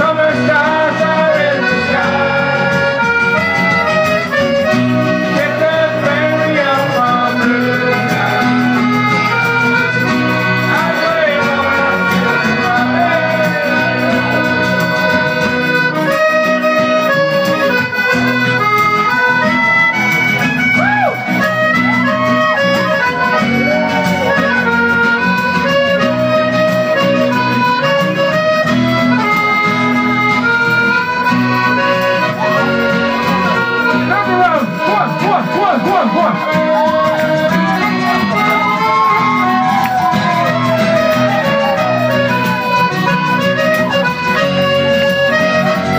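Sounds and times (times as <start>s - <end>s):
acoustic guitar: 0.0s - 45.9s
piano accordion melody: 0.0s - 45.9s.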